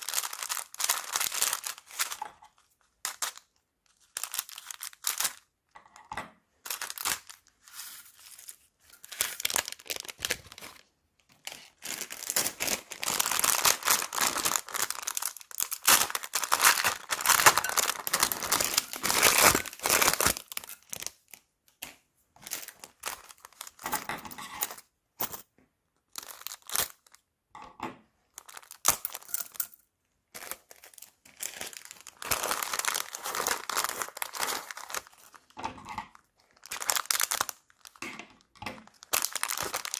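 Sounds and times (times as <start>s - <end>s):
plastic bags crinkling and tearing: 0.0s - 5.4s, 6.6s - 21.4s, 22.4s - 24.1s, 26.1s - 27.2s, 28.4s - 29.6s, 30.3s - 39.9s.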